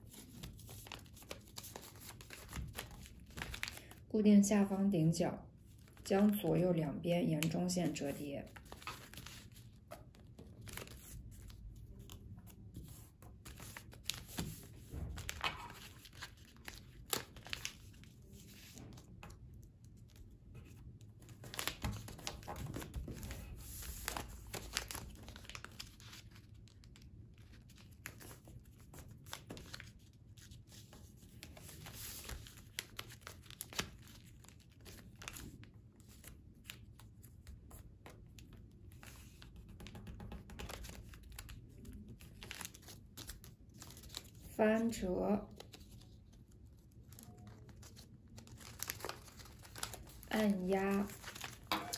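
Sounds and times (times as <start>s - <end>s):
paper rustling and crinkling: 0.0s - 4.0s, 8.1s - 39.6s, 40.5s - 44.5s, 45.5s - 51.9s
paper crackles: 0.1s - 4.0s, 8.4s - 38.3s, 40.6s - 44.5s, 45.5s - 51.9s.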